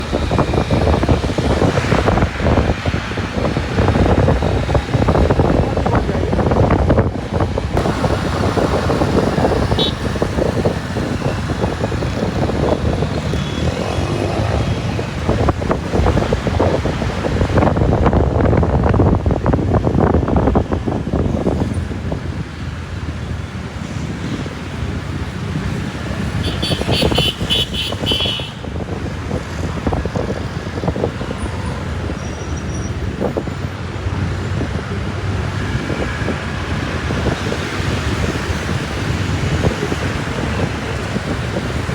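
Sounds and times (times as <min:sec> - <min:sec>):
road traffic: 0:00.0 - 0:41.9
wind buffeting microphone: 0:00.0 - 0:41.9.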